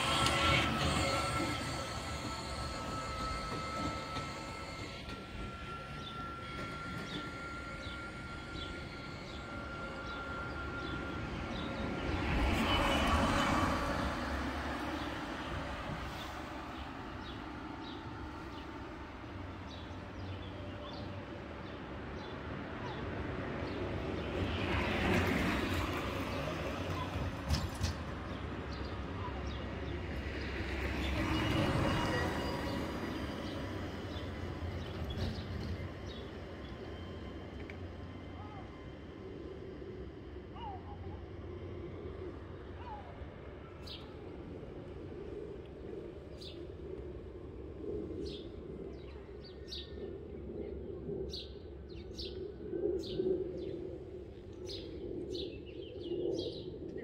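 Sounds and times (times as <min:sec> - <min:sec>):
electric minibus passing: 0:00.0 - 0:49.9
low street rumble: 0:00.0 - 0:57.0.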